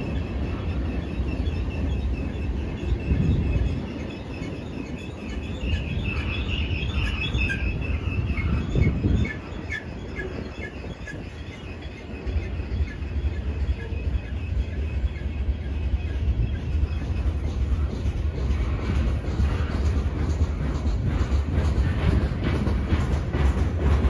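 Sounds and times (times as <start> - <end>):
freight train rolling past: 0.0 - 24.0
train clank: 0.0 - 24.0.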